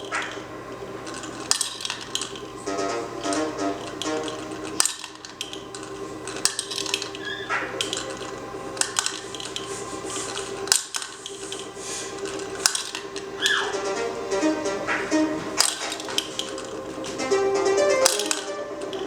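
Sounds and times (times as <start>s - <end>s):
plastic toy clicks and clacks: 0.0s - 13.9s, 14.9s - 19.0s.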